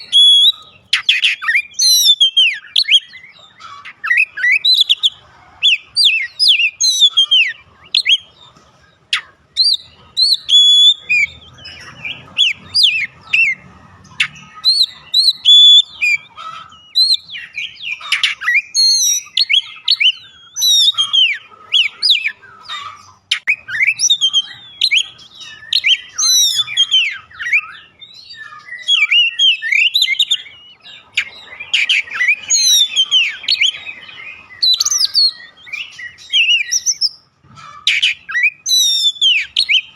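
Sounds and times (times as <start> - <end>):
bird singing varied whistles: 0.0 - 3.4, 4.0 - 8.3, 9.6 - 13.6, 14.3 - 22.4, 23.3 - 37.3, 37.9 - 39.9.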